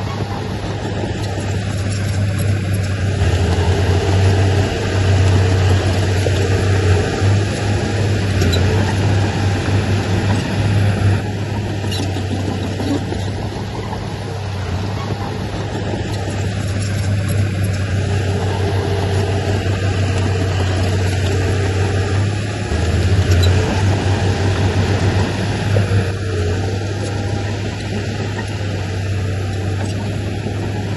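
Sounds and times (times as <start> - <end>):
heavy diesel engine drone: 0.0 - 30.9.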